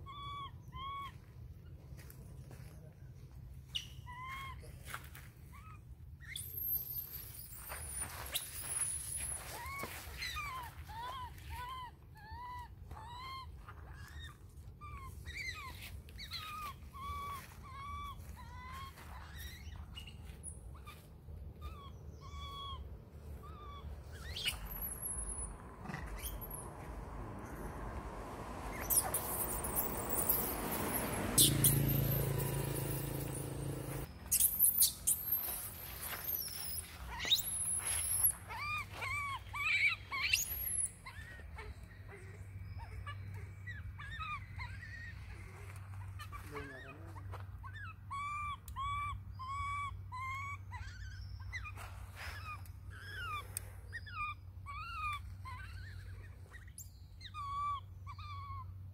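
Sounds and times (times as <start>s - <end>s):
baby monkey crying: 0.0s - 1.2s, 3.7s - 4.6s, 8.3s - 51.8s, 52.4s - 58.9s.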